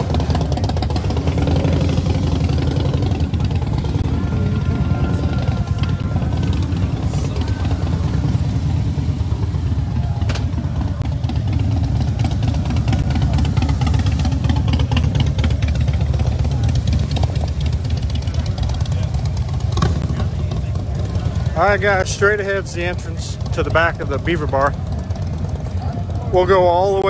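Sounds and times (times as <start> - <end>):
motorcycle engines running: 0.0 - 27.0.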